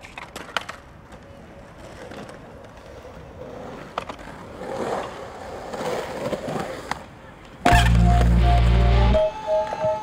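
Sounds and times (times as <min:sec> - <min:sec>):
skateboard clacking: 0:00.0 - 0:08.3
skateboard wheels rolling on concrete: 0:00.0 - 0:10.0.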